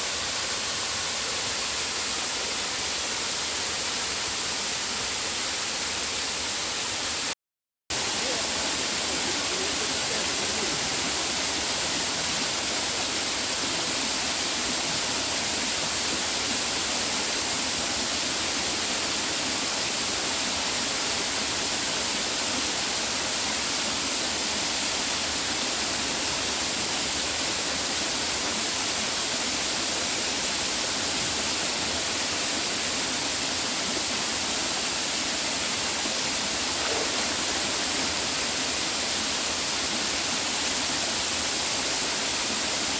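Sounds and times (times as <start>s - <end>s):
waterfall rushing: 7.9s - 42.9s.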